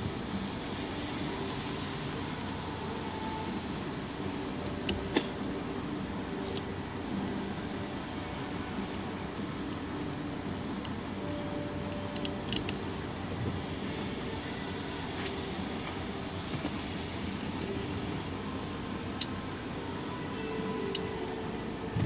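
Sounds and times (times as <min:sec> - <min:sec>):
motor vehicle rumble: 0:00.0 - 0:22.0.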